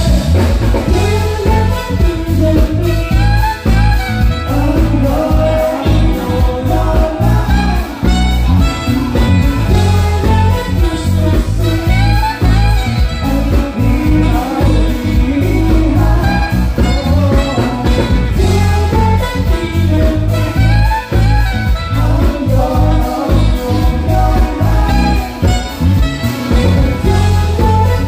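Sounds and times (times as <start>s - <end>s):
live band with saxophone and bass: 0.0s - 28.0s.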